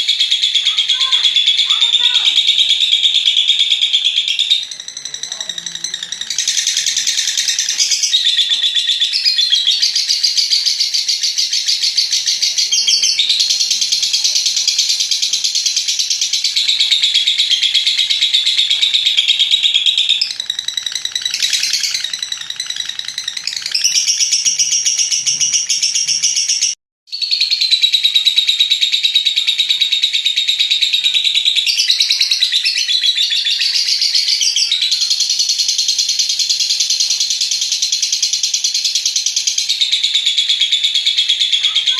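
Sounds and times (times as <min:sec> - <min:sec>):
lovebird trilling: 0:00.0 - 0:41.9.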